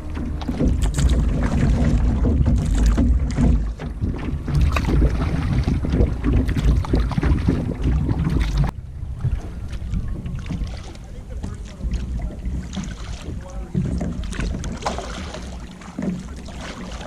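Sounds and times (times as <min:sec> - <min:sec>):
canoe paddle splashing and knocking: 0:00.0 - 0:17.0
wind buffeting microphone: 0:00.0 - 0:17.0.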